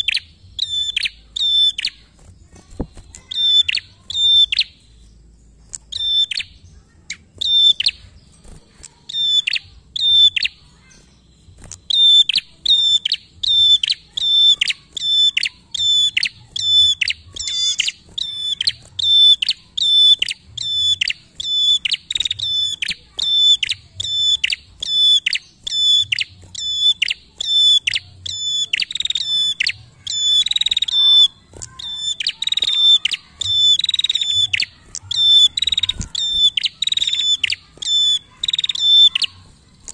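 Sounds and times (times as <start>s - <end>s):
caged bird singing: 0.0s - 39.9s.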